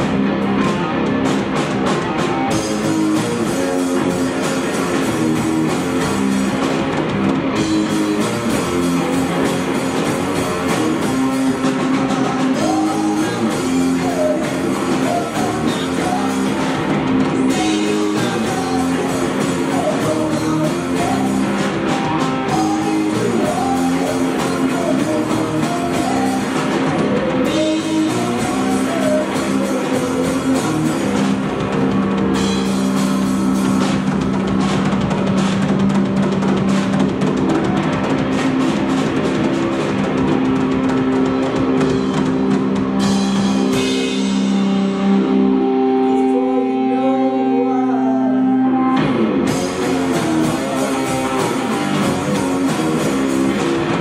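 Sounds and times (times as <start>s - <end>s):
drum kit: 0.0s - 46.9s, 48.9s - 54.0s
electric guitar chords: 0.0s - 54.0s.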